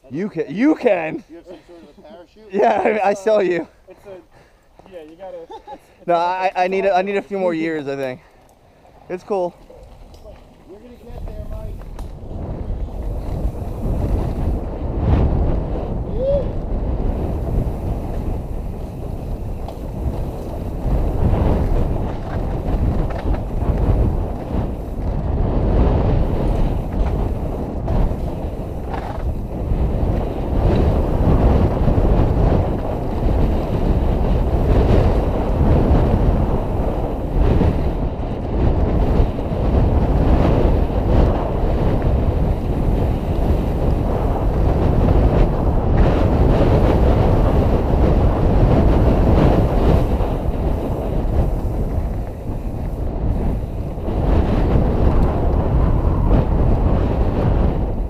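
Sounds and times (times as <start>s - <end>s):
wind buffeting microphone: 0.0s - 58.0s
bike tyres rumbling over dirt: 8.7s - 58.0s.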